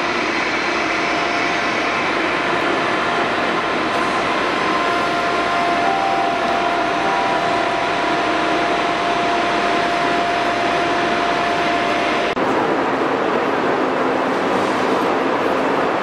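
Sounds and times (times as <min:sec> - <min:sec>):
high steady whine: 0:00.0 - 0:16.0.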